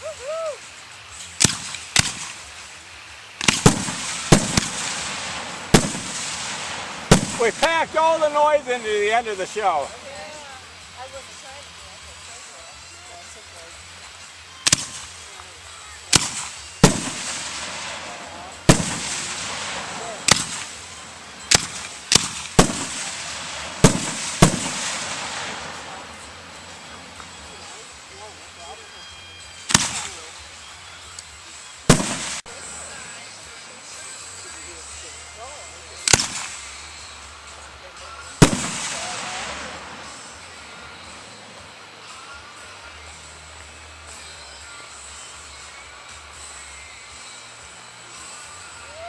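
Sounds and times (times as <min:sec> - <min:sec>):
fireworks bursting: 0:00.0 - 0:42.6
crackling hiss: 0:00.0 - 0:49.0.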